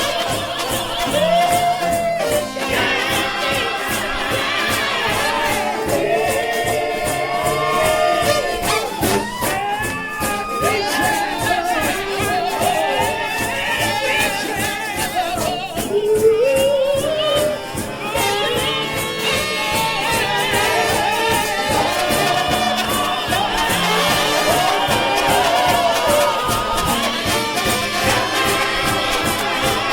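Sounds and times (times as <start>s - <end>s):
fast driving drumbeat: 0.0s - 29.9s
trombone-led brass ensemble: 0.0s - 29.9s.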